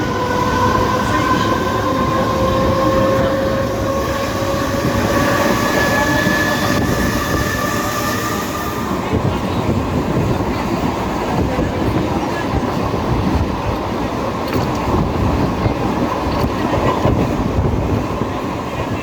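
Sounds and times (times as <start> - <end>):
electric train rumbling on track: 0.0 - 19.0.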